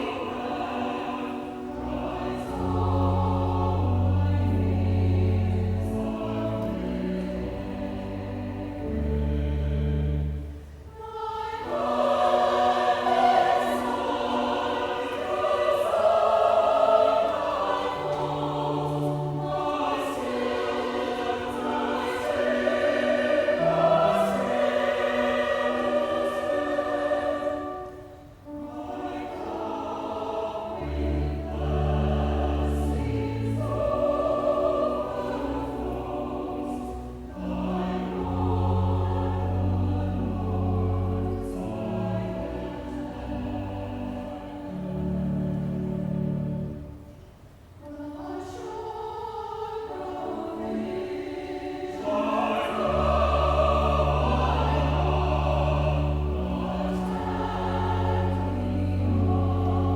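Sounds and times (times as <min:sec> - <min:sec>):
choir singing sustained chords: 0:00.0 - 0:59.9.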